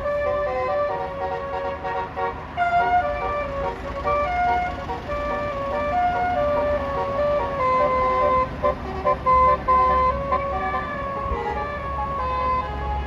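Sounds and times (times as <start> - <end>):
bus engine rumble: 0.0 - 13.0
bus horn playing melody: 0.0 - 13.0.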